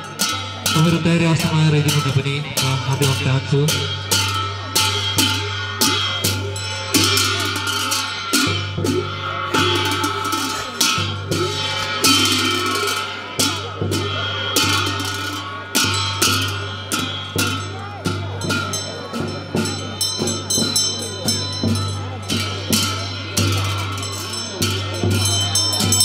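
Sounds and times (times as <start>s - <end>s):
frame drum: 0.0s - 26.0s
hand cymbals clashing: 0.0s - 26.0s.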